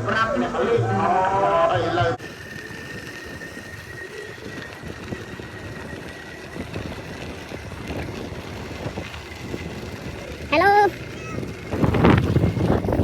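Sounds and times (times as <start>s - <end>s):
bicycle rumbling on rough road: 0.0s - 13.0s
wind buffeting microphone: 2.2s - 13.0s.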